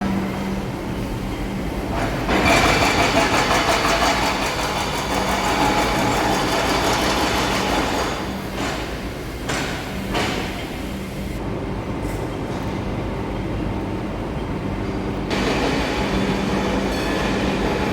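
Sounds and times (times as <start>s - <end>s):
wheel and rail noise: 0.0s - 11.4s, 12.0s - 17.9s
train low hum: 0.0s - 17.9s.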